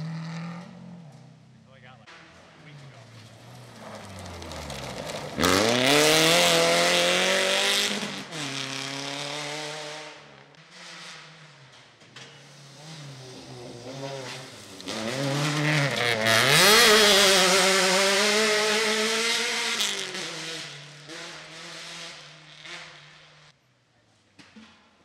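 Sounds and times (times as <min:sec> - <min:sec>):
rally car accelerating past: 0:00.0 - 0:01.2, 0:02.3 - 0:23.4.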